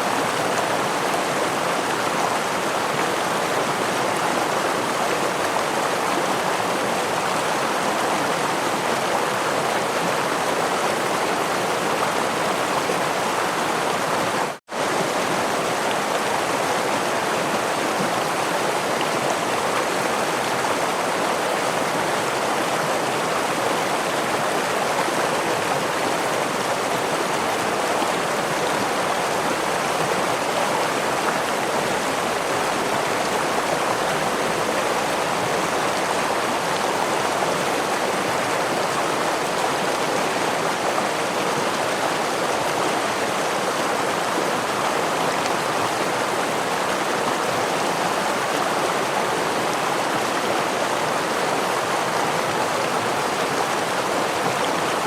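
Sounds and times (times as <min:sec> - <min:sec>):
stream over small waterfall: 0:00.0 - 0:55.0.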